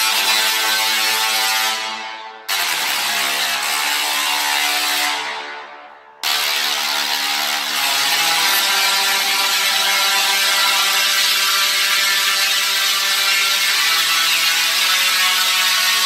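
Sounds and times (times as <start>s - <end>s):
tesla coils buzzing and crackling: 2.5s - 16.0s.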